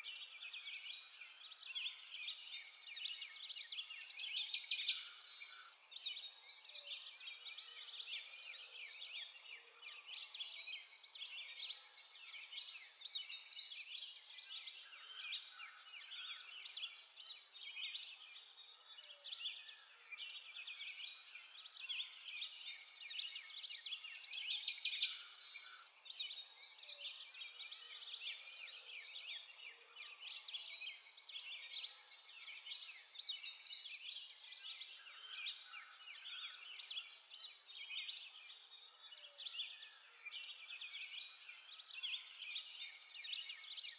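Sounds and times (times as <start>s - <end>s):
birds chirping in chorus: 0.0s - 43.9s.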